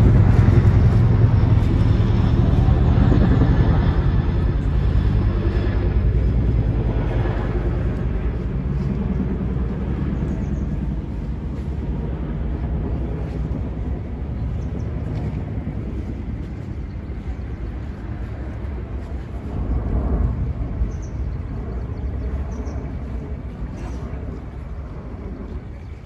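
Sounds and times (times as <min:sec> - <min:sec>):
city ambience rumble: 0:00.0 - 0:26.0.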